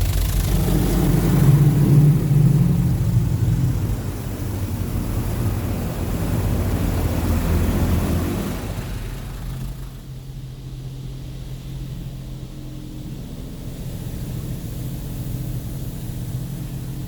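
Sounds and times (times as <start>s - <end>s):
car wash machine drone: 0.0s - 17.0s.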